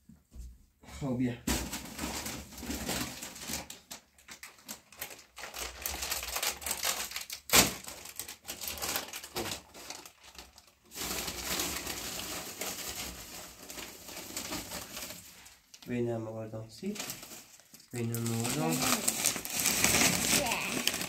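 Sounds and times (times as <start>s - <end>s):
plastic snack bags crinkling: 1.6s - 21.0s.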